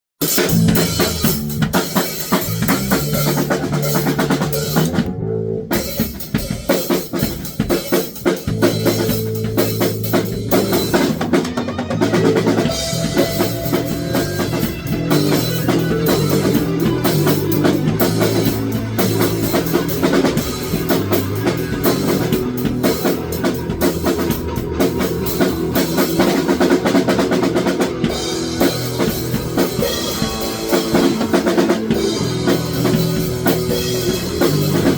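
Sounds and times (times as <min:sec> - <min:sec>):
drum kit beat: 0:00.2 - 0:34.9
guitar: 0:00.2 - 0:34.9
bass line: 0:00.4 - 0:06.6, 0:08.2 - 0:34.9.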